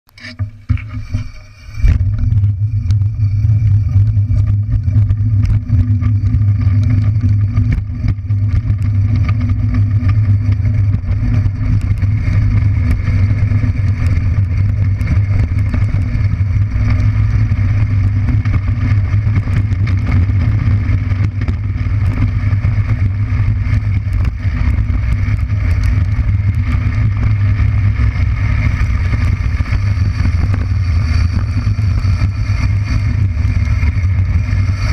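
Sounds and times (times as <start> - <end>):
wheels rumbling on asphalt: 0.0 - 34.9
small rattles and clicks: 0.1 - 34.9.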